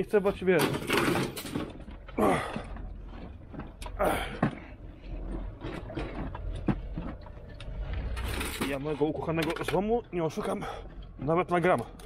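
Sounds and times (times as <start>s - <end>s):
metal profiles clattering and scraping: 0.0s - 12.0s.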